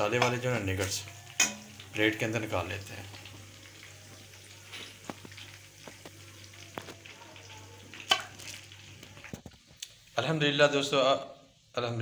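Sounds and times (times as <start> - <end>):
food frying in oil: 0.0 - 12.0.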